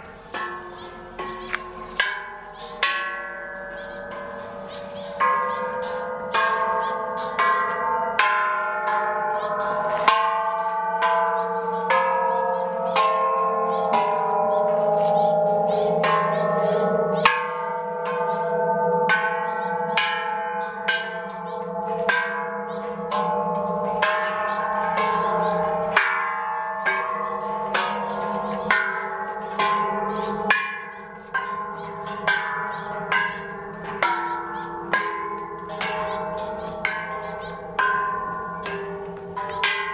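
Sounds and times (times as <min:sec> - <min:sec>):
bells struck with a stick: 0:00.0 - 0:39.9.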